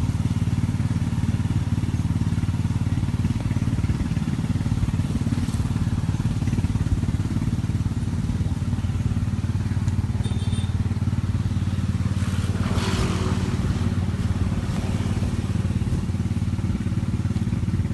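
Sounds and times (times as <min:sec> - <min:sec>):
combine harvester engine drone: 0:00.0 - 0:17.9.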